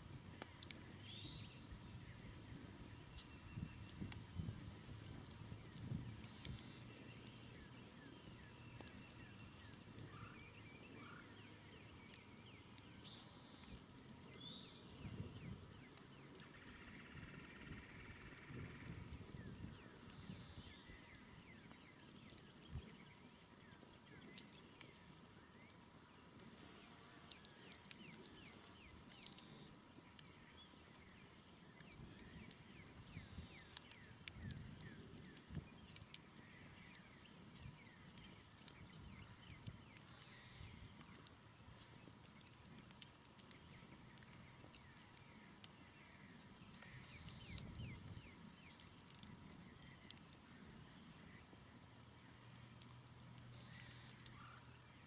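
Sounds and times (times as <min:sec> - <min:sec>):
campfire crackling: 0:00.0 - 0:55.0
birds chirping: 0:00.3 - 0:55.0.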